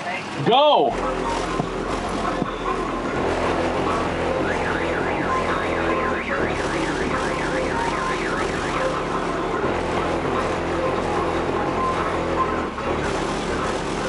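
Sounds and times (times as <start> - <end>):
subwoofer bass tones: 0.9 - 14.0
warbling siren-like tone: 0.9 - 14.0.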